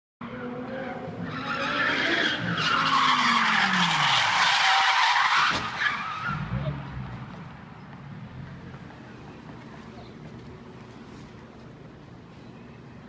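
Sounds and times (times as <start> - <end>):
tyres skidding: 0.3 - 12.0.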